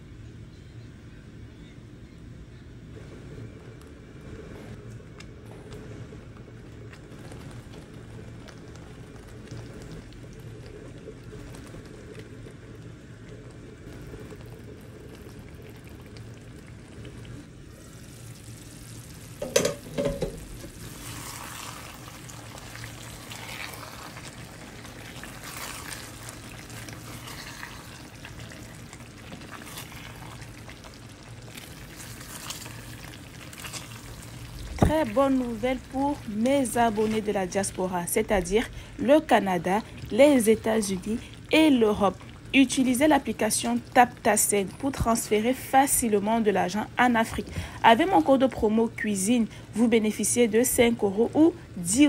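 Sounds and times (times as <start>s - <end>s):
low hum: 0.0s - 48.3s
sauce bubbling in a frying pan: 5.2s - 52.0s.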